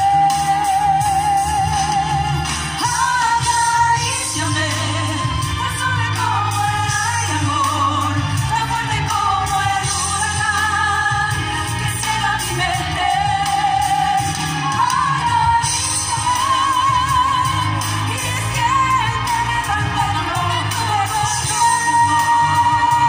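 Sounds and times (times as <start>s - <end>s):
pop ballad over sound system: 0.0s - 23.0s.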